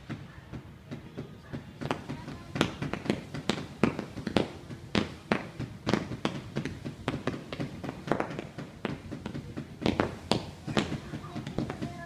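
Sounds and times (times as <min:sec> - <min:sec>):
fireworks bangs and crackling pops: 0:00.0 - 0:12.0.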